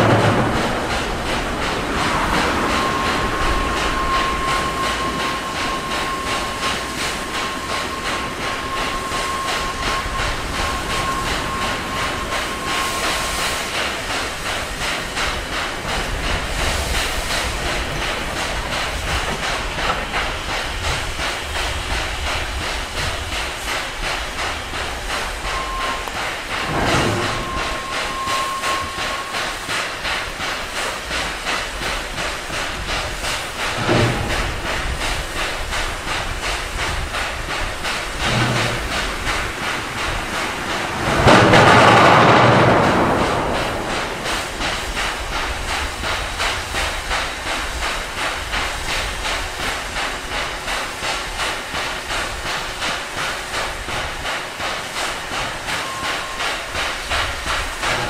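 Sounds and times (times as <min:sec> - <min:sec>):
steam hissing: 0:00.0 - 0:58.0
steam locomotive exhaust beating: 0:00.0 - 0:58.0.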